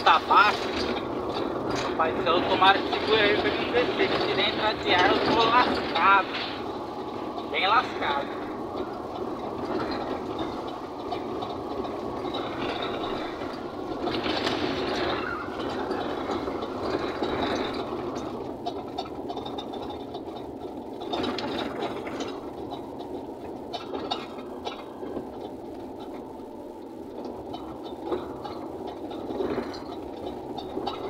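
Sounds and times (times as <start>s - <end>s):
cab rattling on dirt road: 0.0s - 31.0s
truck engine running: 0.0s - 31.0s.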